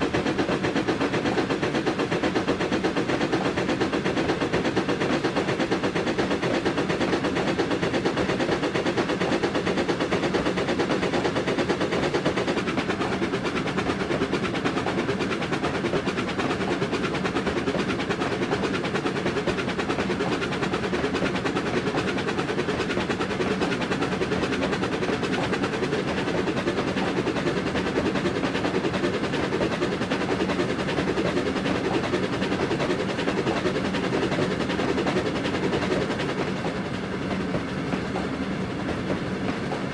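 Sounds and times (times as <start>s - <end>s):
train rattling at speed: 0.0s - 39.9s.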